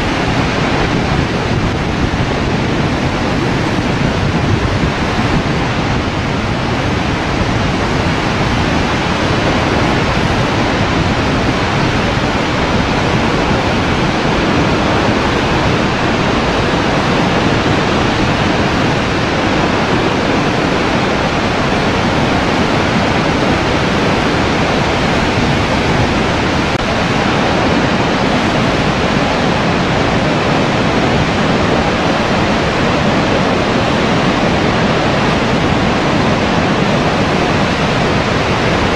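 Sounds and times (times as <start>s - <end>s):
loud rush of falling water: 0.0s - 38.9s.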